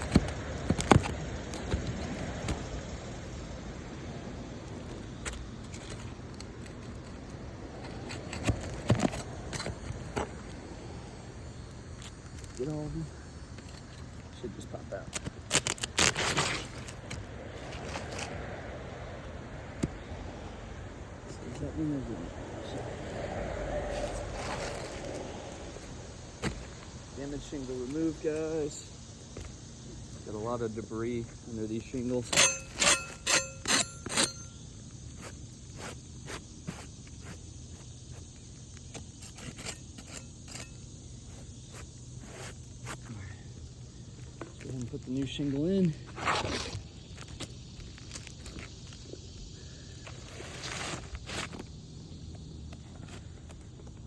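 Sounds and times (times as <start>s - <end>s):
roof shingle cracking and scraping: 0.0s - 4.0s, 4.6s - 10.6s, 11.9s - 18.5s, 24.0s - 51.8s.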